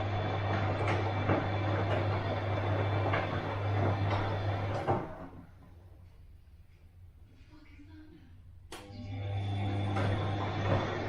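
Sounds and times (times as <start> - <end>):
washing machine motor hum: 0.0 - 11.0.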